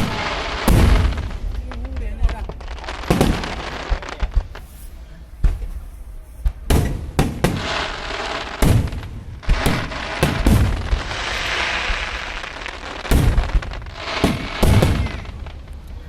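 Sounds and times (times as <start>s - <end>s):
fireworks booming: 0.0s - 16.0s
fireworks crackling hiss: 0.0s - 16.0s.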